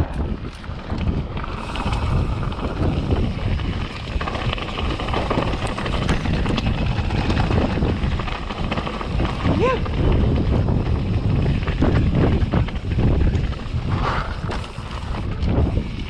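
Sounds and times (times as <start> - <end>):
wind noise on microphone: 0.0 - 16.0
bike rattle: 0.1 - 16.0
tyres rumbling on dirt: 0.3 - 16.0.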